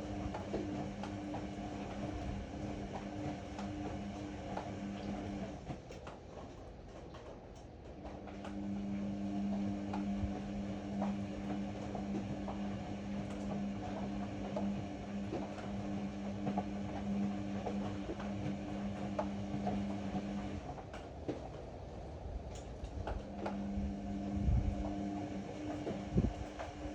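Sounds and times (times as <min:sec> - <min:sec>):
washer-dryer humming: 0:00.0 - 0:26.9.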